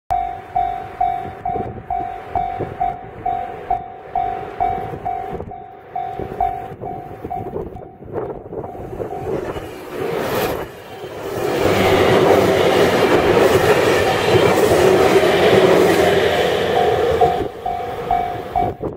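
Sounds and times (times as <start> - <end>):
level-crossing warning bell dinging: 0.1 - 9.6, 10.8 - 18.9
electric train rumble: 0.1 - 18.9.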